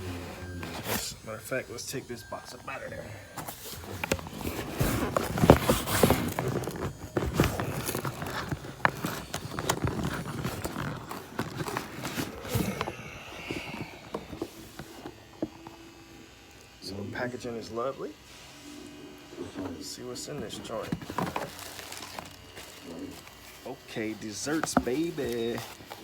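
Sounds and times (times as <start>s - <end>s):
cardboard rustling and scraping: 0.0s - 1.4s, 2.9s - 15.8s, 19.3s - 26.0s.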